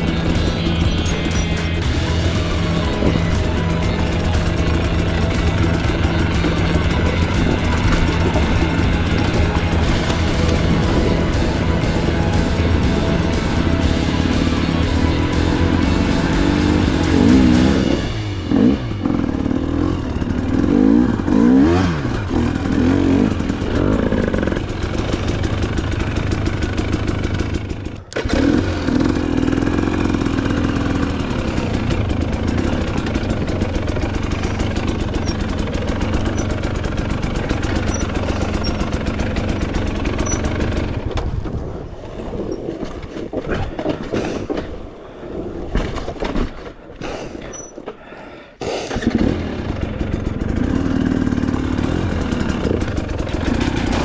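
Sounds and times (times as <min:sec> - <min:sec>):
dirt bike engine revving: 0:00.0 - 0:41.1, 0:48.9 - 0:54.0.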